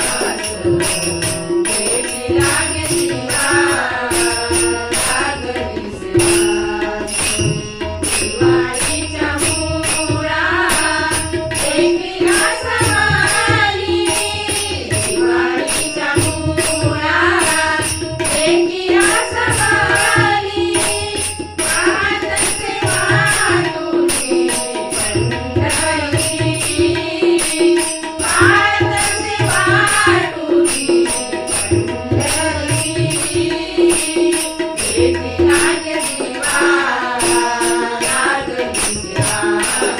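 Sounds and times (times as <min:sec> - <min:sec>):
harmonium: 0:00.0 - 0:39.9
tabla drumming: 0:00.0 - 0:39.9
women singing: 0:00.0 - 0:39.9.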